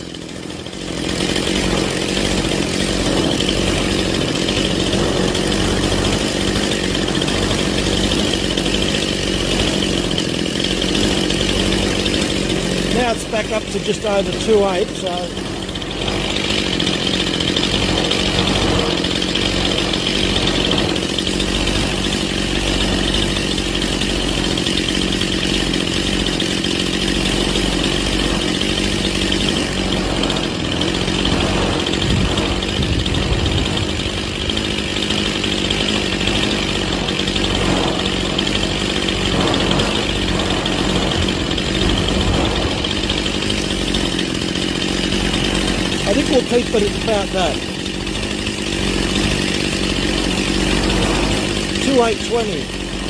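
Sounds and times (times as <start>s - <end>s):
chainsaw engine idling: 0.0s - 53.0s.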